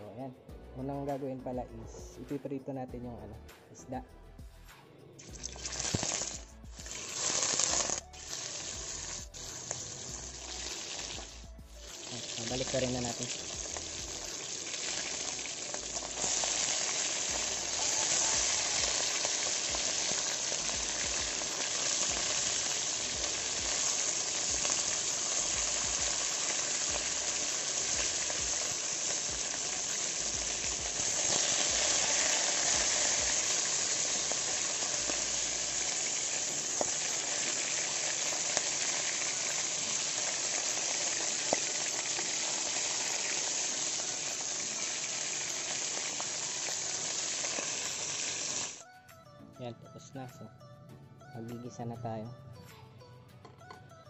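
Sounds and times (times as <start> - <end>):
fish sizzling in hot oil: 5.2 - 48.8.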